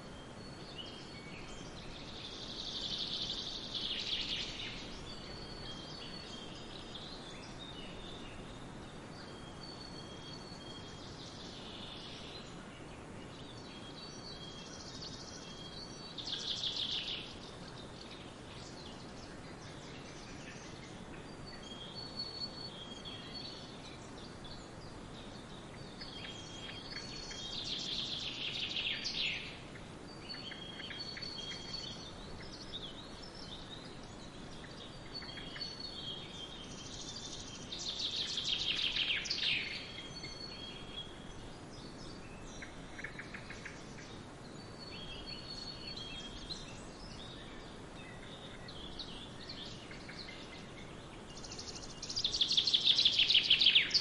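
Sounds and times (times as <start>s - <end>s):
steady background hiss: 0.0s - 54.0s
wild birds chirping: 0.0s - 54.0s.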